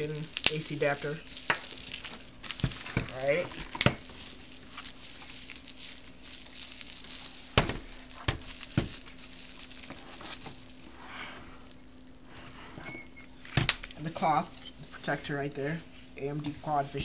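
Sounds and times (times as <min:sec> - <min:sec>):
packaging rustling: 0:00.0 - 0:15.2.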